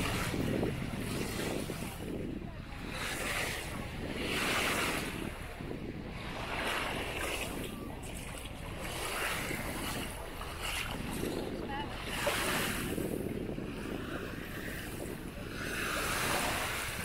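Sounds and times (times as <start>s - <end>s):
sea waves washing: 0.0s - 17.0s
wind on microphone: 0.0s - 17.0s.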